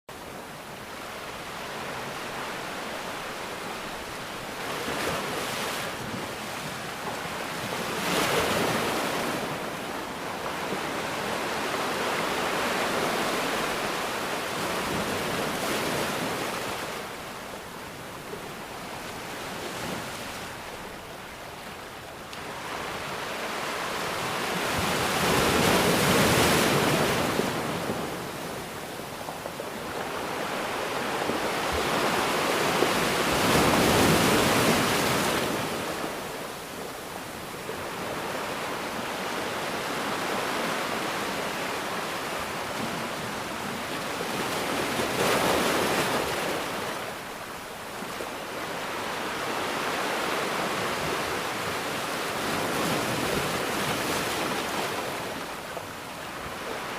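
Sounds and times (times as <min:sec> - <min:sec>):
ocean waves breaking: 0:00.2 - 0:56.9.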